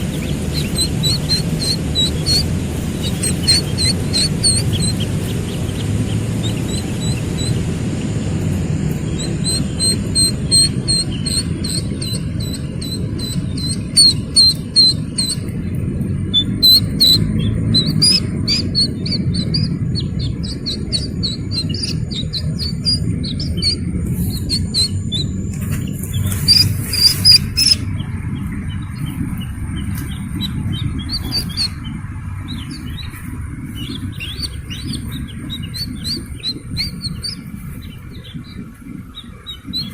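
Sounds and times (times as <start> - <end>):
bird chicks peeping: 0.0 - 39.9
low rumble: 0.0 - 39.9.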